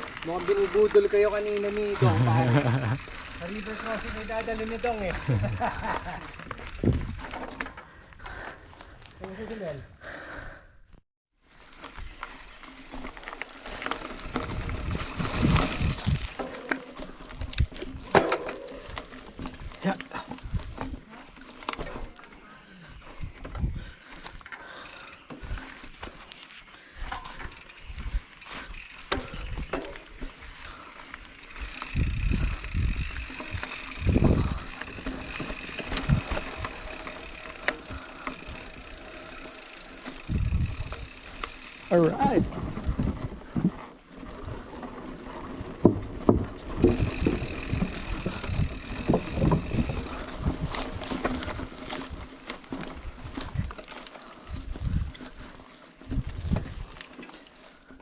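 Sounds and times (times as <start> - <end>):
bike tyres on dirt trail: 0.0 - 58.0.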